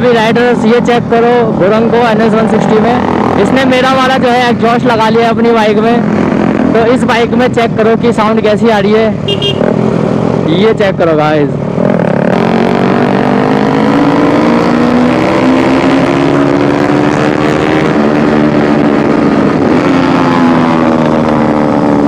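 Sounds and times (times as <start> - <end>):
motorcycle engine with loud exhaust: 0.0 - 22.0.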